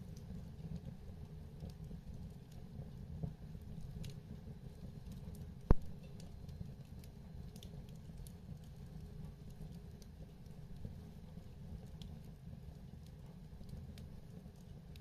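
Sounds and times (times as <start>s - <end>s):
fire crackling: 0.0s - 15.0s
low rumble of flames: 0.0s - 15.0s.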